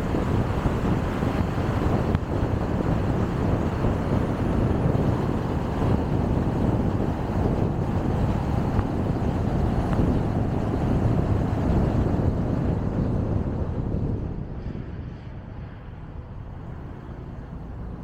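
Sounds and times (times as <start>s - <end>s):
tyre and road noise: 0.0s - 18.0s.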